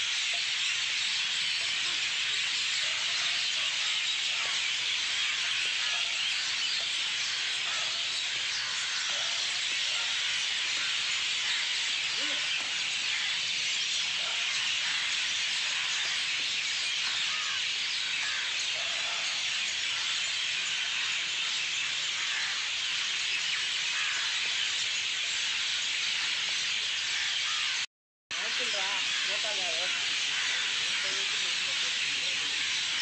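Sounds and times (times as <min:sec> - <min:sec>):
flock of birds chirping: 0:00.0 - 0:33.0.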